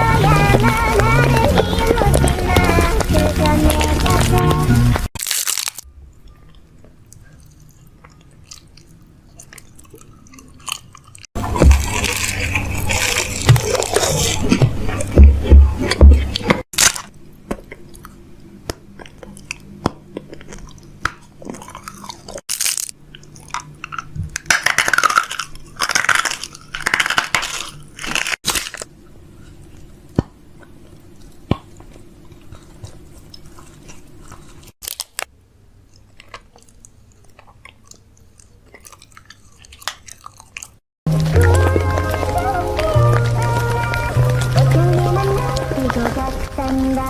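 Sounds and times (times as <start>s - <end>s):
crunching and crackling clicks: 0.0s - 35.3s, 35.9s - 47.0s.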